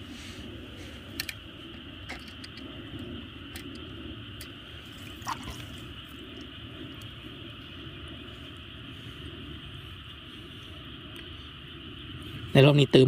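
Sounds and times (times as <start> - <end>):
low rumble: 0.0 - 13.0
steady high hiss: 0.0 - 13.0.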